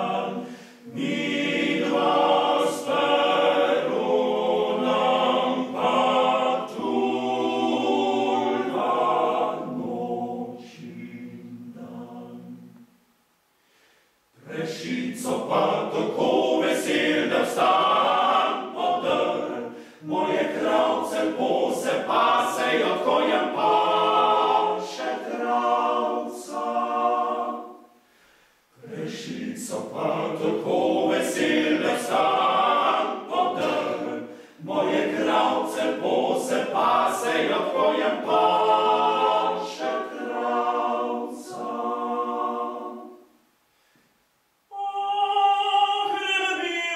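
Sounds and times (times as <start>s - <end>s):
male choir singing a cappella: 0.0s - 12.8s, 14.4s - 28.0s, 28.8s - 43.4s, 44.7s - 46.9s.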